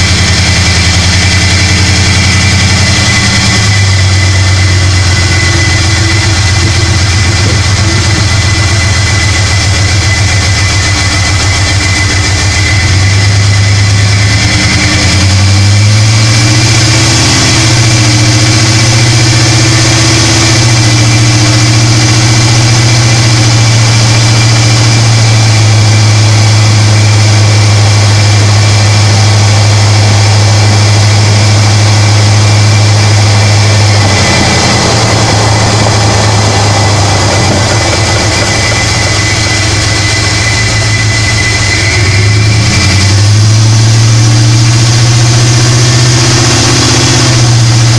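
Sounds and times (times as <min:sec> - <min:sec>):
supercharged engine running: 0:00.0 - 0:47.9.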